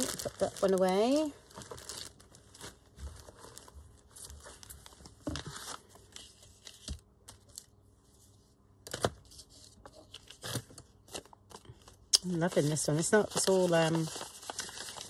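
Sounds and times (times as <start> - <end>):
paper rustling and crinkling: 0.0 - 8.3, 8.9 - 15.0.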